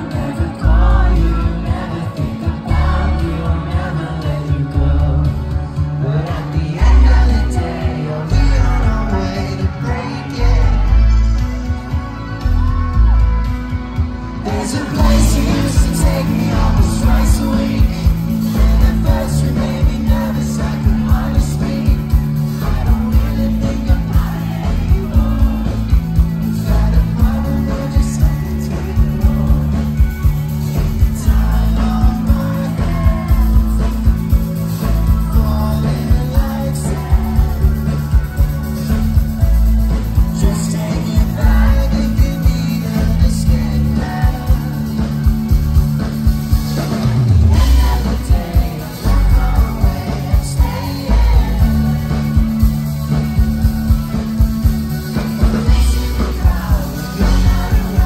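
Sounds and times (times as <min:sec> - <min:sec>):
bass slide down: 0:00.0 - 0:11.6, 0:14.4 - 0:58.0
lead vocal singing: 0:00.0 - 0:58.0
live rock band playing: 0:00.0 - 0:58.0.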